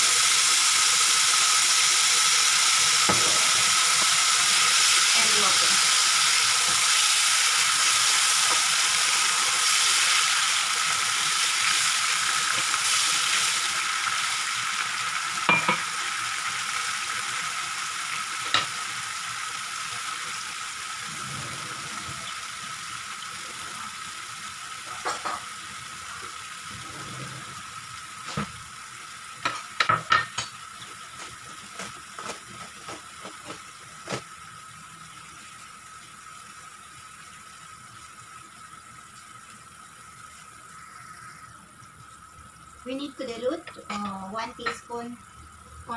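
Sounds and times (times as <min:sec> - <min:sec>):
food sizzling in a frying pan: 0:00.0 - 0:45.9.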